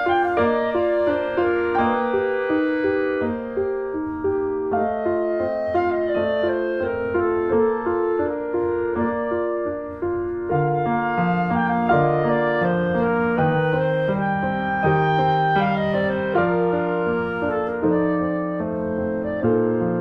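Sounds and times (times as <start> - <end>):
piano: 0.0 - 20.0
woodwind melody: 0.0 - 20.0.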